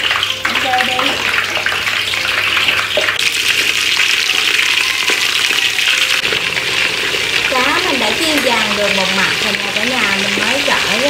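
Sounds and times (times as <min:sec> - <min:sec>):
fish deep-frying sizzle: 0:00.0 - 0:11.0.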